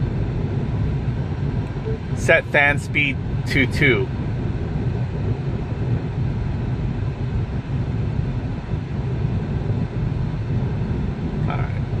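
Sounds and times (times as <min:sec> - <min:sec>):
road and tyre noise in car cabin: 0:00.0 - 0:12.0.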